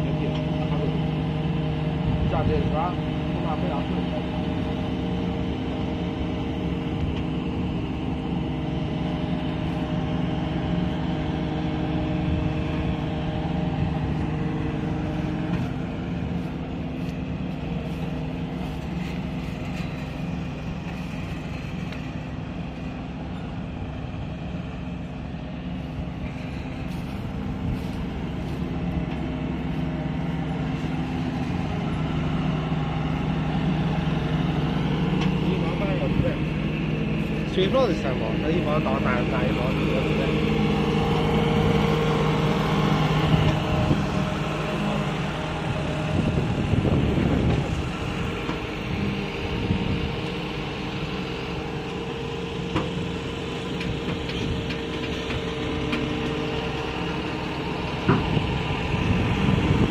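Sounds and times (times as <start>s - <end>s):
baler machinery drone: 0.0s - 59.9s
diesel engine: 0.0s - 59.9s.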